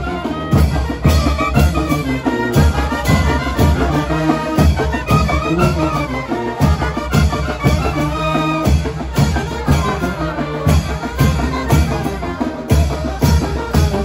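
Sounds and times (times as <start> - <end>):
drums beat: 0.0 - 14.0
street brass band playing: 0.0 - 14.0.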